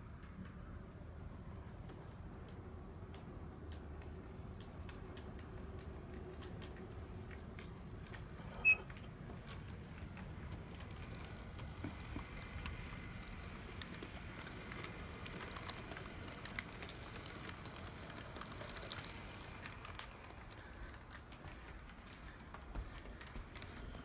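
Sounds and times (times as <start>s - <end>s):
metal wheels clicking on rails: 2.5s - 22.4s.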